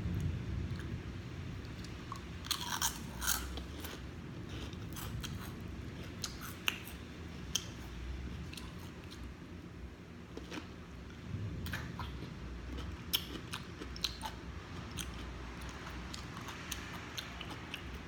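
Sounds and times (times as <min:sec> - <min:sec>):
chewing crunchy food: 0:01.6 - 0:09.3, 0:10.3 - 0:18.0.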